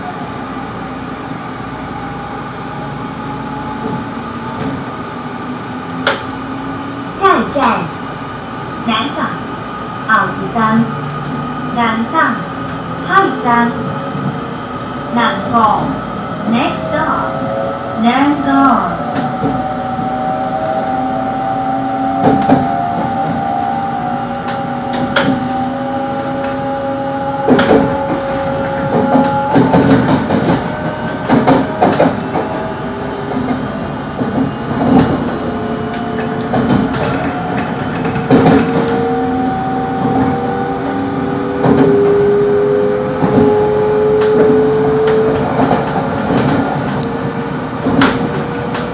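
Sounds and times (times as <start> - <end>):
steady train rumble: 0.0 - 48.9.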